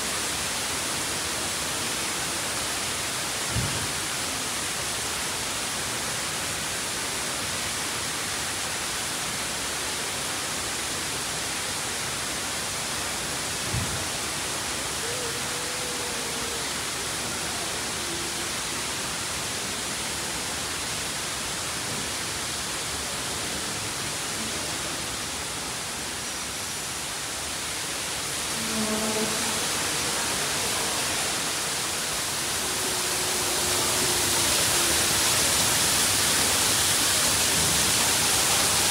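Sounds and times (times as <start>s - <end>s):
waterfall pouring into pond: 0.0s - 38.9s.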